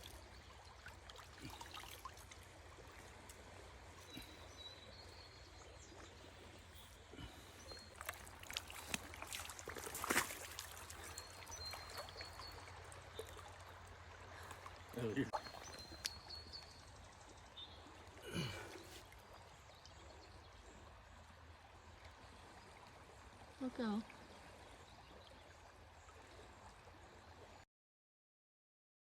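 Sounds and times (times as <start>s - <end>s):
water trickling and lapping: 0.0s - 27.6s.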